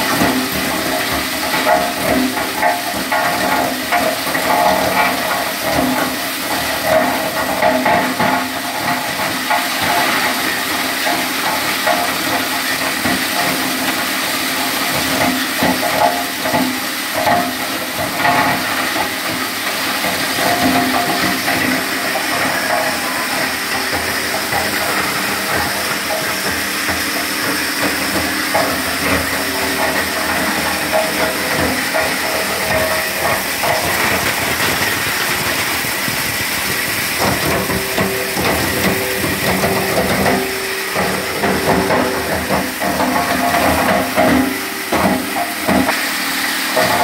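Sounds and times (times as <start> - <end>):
wood chipper running: 0.0 - 47.0.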